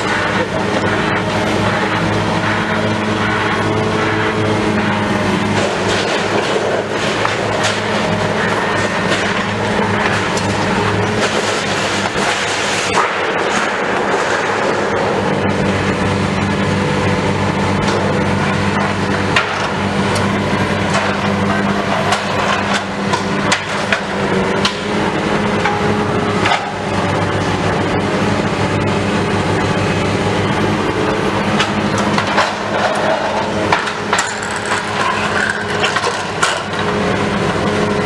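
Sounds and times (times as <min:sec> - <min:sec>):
debris knocking and crunching: 0:00.0 - 0:16.5, 0:17.3 - 0:27.9, 0:29.9 - 0:37.7
diesel engine running: 0:00.0 - 0:38.0.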